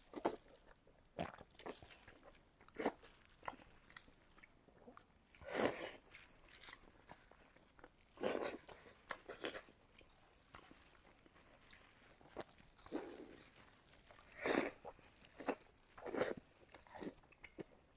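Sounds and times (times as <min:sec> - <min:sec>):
person chewing: 0:00.1 - 0:17.9.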